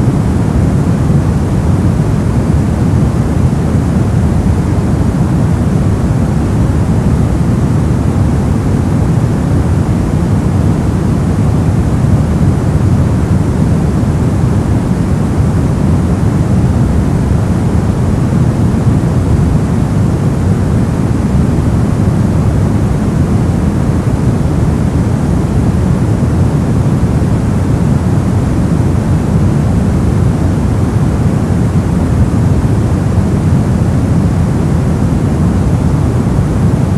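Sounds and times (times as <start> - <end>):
brown noise rumbling hiss: 0.0 - 36.9.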